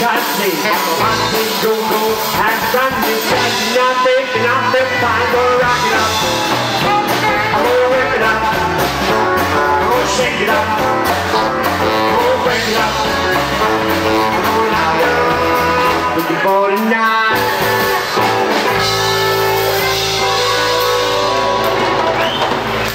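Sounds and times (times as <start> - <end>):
rockabilly band playing: 0.0 - 22.9.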